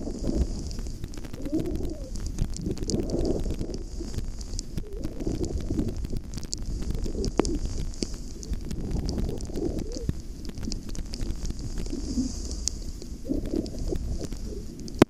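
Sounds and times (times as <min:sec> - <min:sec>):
skis scraping over snow: 0:00.0 - 0:14.8
small clicks: 0:00.0 - 0:15.0
wind buffeting microphone: 0:00.0 - 0:15.0.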